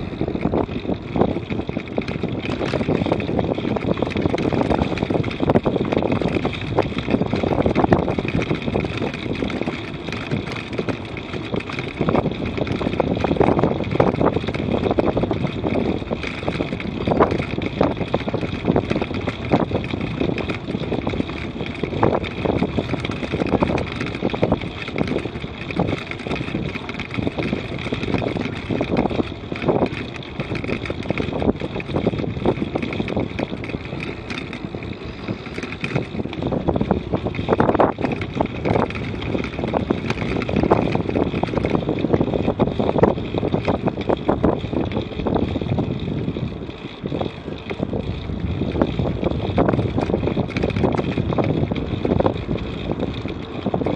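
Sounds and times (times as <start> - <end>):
tyre and path rumble: 0.0 - 53.9
wind buffeting microphone: 0.0 - 53.9.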